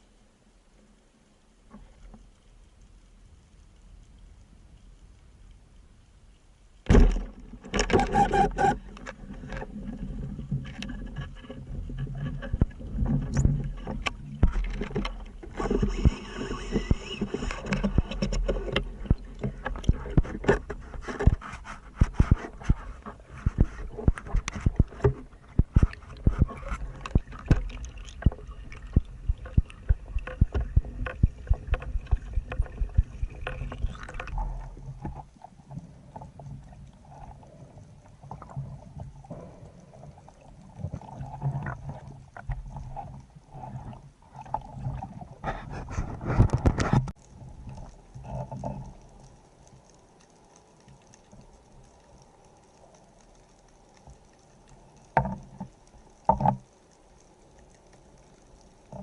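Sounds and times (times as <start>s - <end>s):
water splashing: 6.9s - 59.0s.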